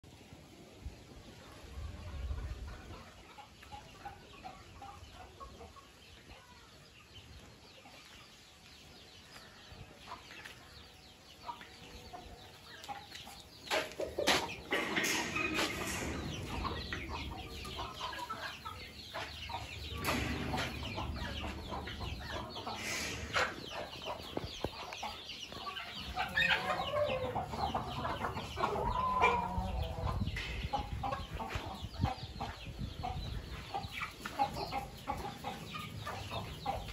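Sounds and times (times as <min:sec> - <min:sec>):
chickens clucking: 0:00.1 - 0:36.9.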